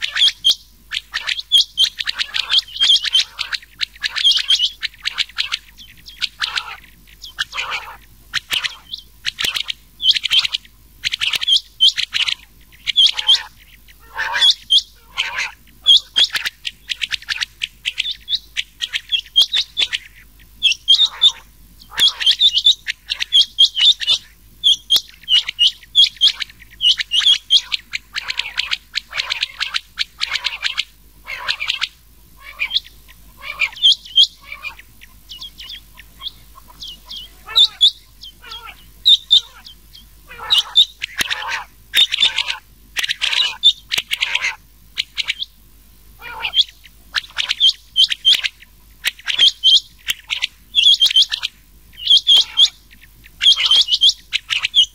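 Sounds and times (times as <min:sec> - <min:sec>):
quail calling: 0:00.0 - 0:54.9.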